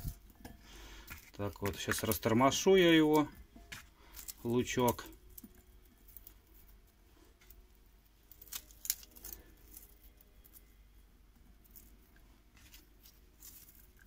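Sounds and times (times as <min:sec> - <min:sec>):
onion rings rustling: 0:00.0 - 0:14.0.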